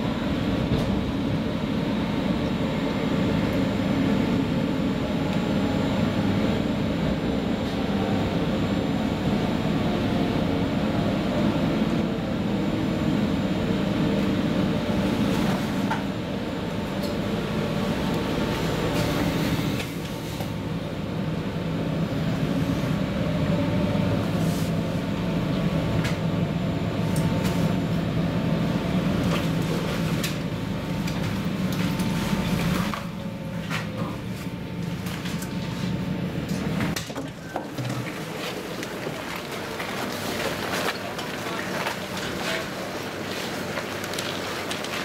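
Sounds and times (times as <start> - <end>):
electric train hum and rumble: 0.0 - 44.9.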